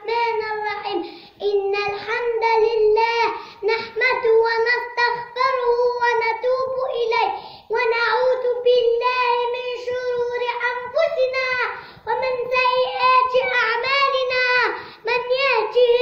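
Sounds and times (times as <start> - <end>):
boy singing chant-like melody: 0.0 - 16.0.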